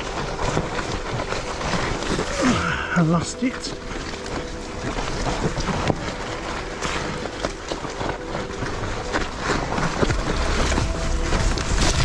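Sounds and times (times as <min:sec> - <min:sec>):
bike rattling over rough ground: 0:00.0 - 0:12.0.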